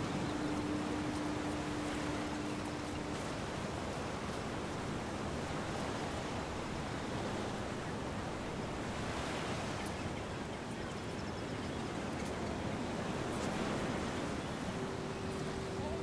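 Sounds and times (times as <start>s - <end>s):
ocean waves washing: 0.0s - 16.0s.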